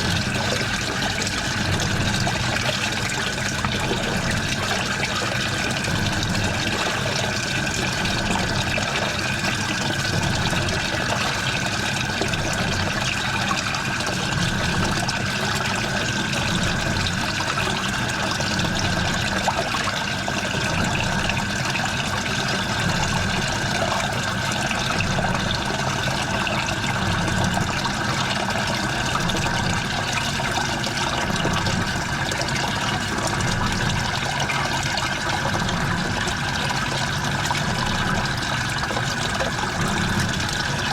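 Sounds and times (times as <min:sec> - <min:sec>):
water splashing in washing machine: 0:00.0 - 0:40.9.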